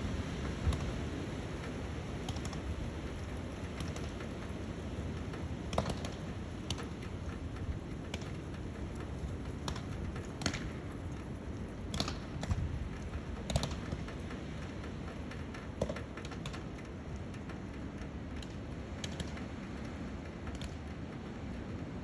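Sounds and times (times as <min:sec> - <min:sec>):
sharp ticks and clicks: 0:01.6 - 0:21.2.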